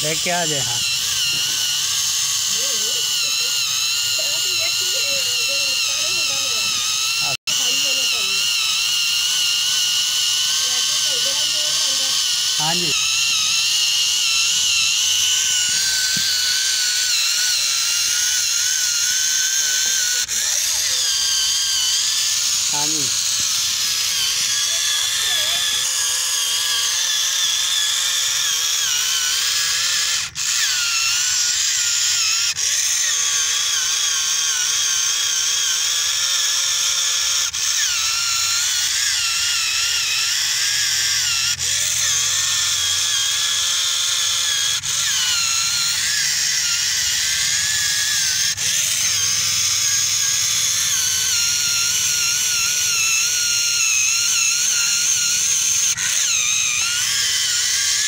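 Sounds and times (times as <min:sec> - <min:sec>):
motor click: 0:00.0 - 0:58.0
small electric motor whining: 0:00.0 - 0:58.0.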